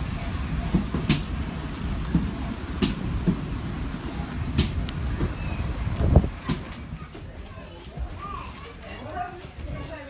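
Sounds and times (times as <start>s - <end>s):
train carriages rumbling: 0.0s - 8.2s.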